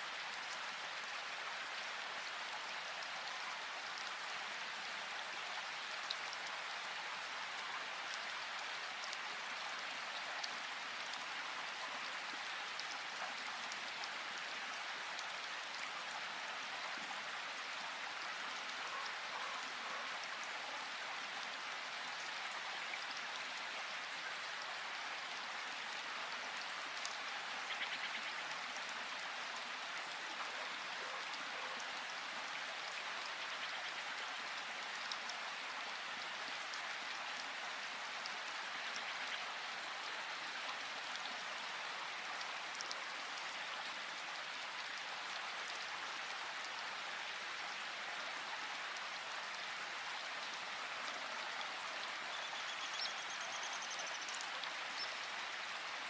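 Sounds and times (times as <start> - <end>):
small water splashes and drips: 0.0 - 56.0.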